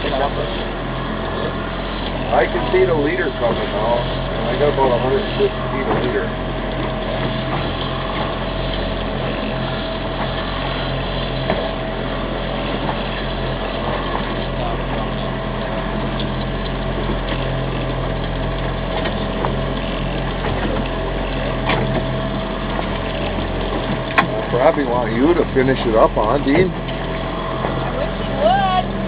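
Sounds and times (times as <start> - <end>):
boat engine drone: 0.0 - 29.0
thin steady whine: 0.0 - 29.0.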